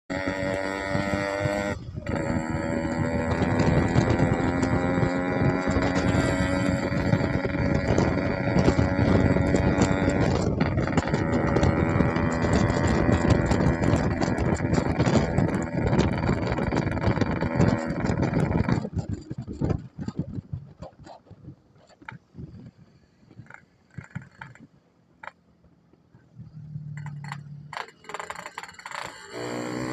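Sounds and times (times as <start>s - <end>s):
motorcycle engine rattling exhaust: 0.1s - 29.9s.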